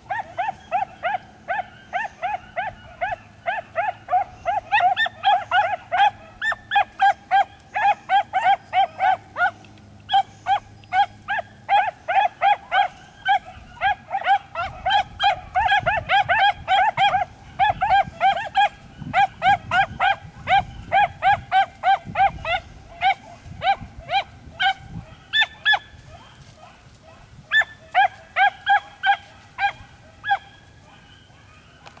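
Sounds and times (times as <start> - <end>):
hound baying: 0.0 - 31.9.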